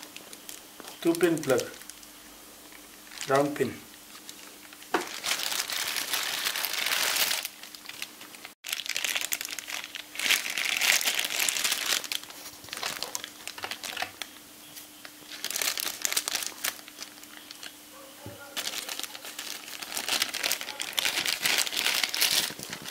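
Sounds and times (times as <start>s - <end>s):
plastic bags crinkling: 0.0s - 2.1s, 3.0s - 14.3s, 15.0s - 17.8s, 18.5s - 22.9s.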